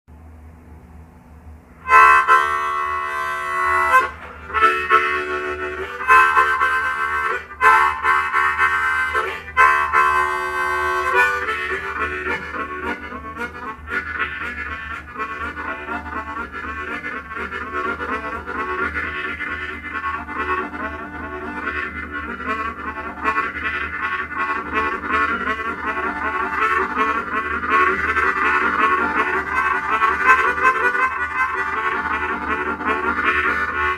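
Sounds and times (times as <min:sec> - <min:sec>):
blues harmonica train imitation: 0:01.8 - 0:33.9.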